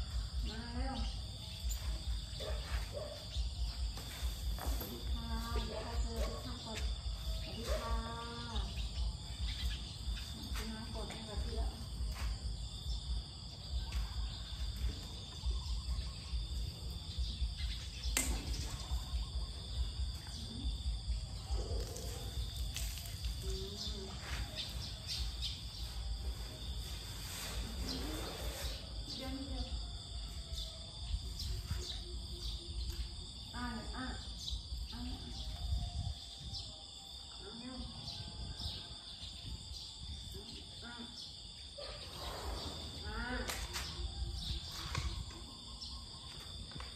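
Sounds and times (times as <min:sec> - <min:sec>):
insects buzzing: 0:00.0 - 0:46.9.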